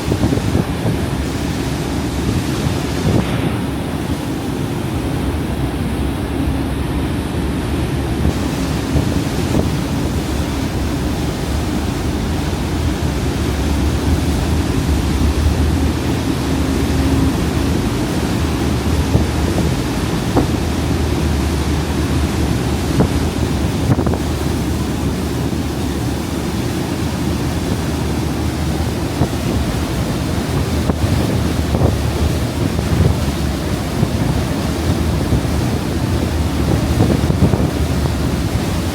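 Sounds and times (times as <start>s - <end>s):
wind and sea water rushing: 0.0s - 38.9s
wind buffeting microphone: 0.0s - 38.9s.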